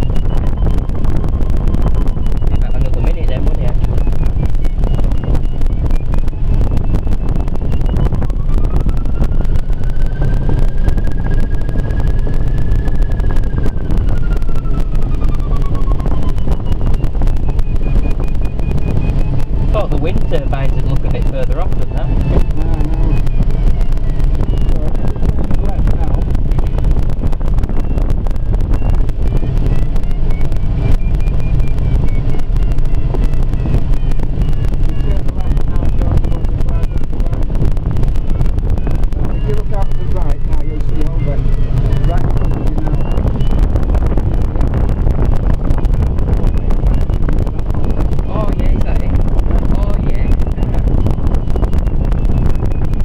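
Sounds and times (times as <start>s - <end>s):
airflow rushing around cockpit: 0.0s - 53.0s
electronic variometer tone: 0.0s - 53.0s
faint high beeps: 0.0s - 53.0s
wind buffeting microphone: 0.0s - 53.0s.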